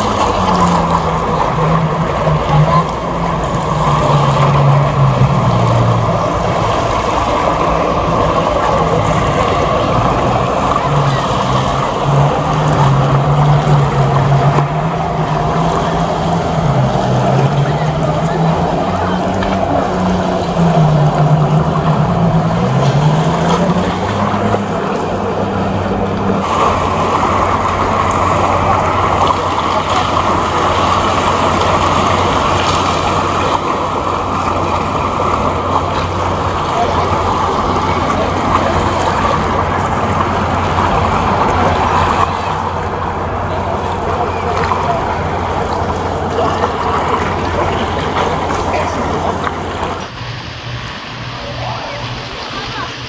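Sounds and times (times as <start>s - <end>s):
boat engine humming: 0.0s - 53.0s
rushing water and wind: 0.0s - 53.0s.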